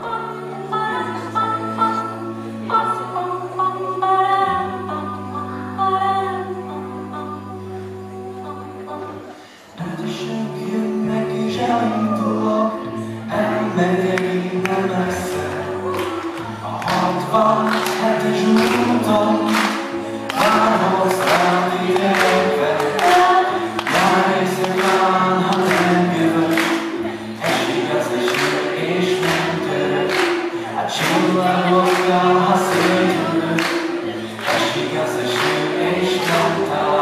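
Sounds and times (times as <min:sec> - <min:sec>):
vocal group singing in harmony: 0:00.0 - 0:37.0.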